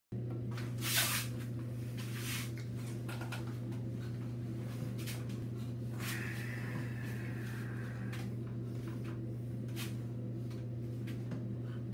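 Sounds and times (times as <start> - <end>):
steady low hum: 0.2 - 11.9.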